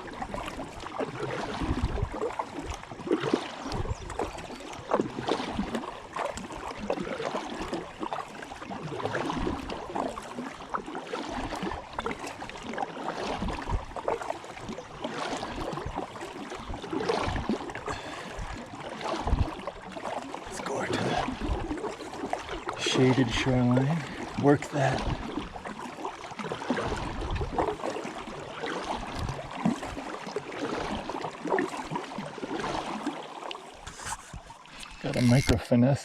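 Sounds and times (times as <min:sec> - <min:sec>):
water splashing and lapping: 0:00.0 - 0:36.0.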